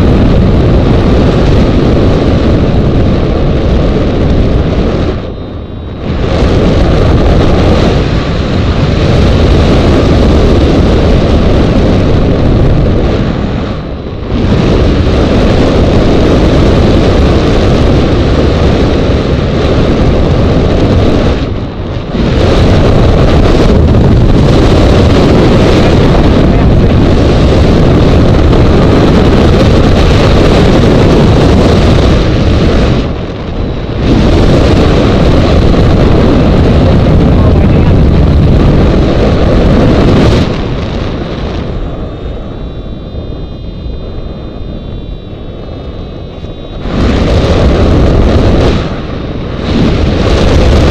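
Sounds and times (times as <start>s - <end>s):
wind rushing past microphone: 0.0s - 50.9s.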